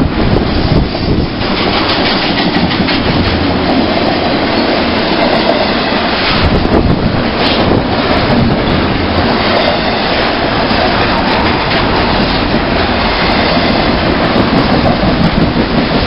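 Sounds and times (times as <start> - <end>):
train wheels clattering on rails: 0.0 - 16.0
wind buffeting microphone: 0.0 - 16.0.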